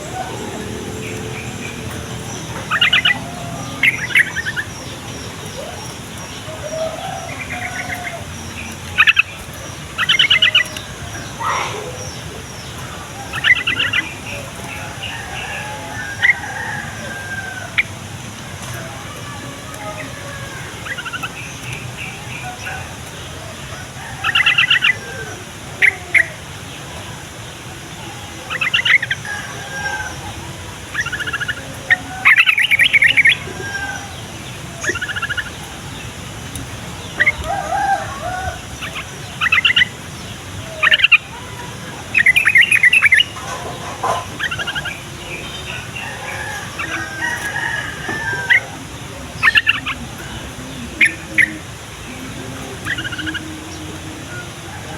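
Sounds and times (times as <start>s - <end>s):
bird singing bubbly phrases: 0.0s - 18.1s, 27.8s - 54.9s
quiet bird chatter: 0.0s - 54.9s.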